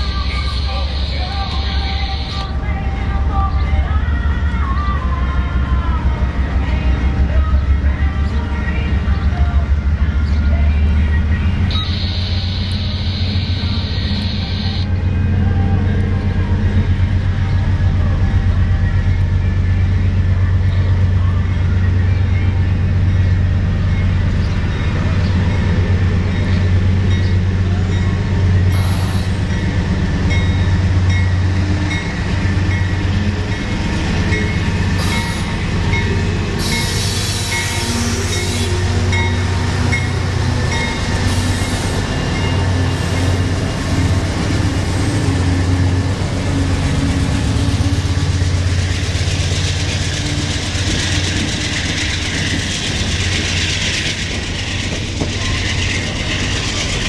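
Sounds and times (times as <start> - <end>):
diesel locomotive engines rumbling: 0.0 - 57.0.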